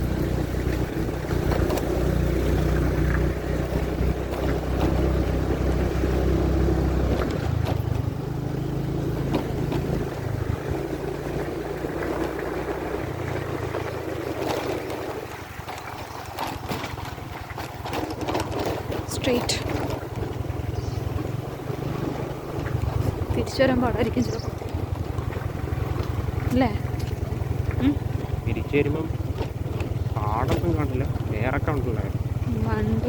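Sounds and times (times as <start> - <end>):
small motorbike engine running: 0.0 - 33.0.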